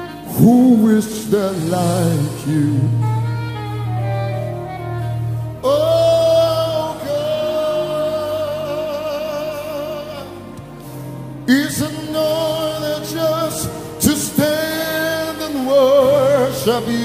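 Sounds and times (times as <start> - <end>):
person singing with vibrato: 0.0 - 17.0
sustained instrumental accompaniment: 0.0 - 17.0.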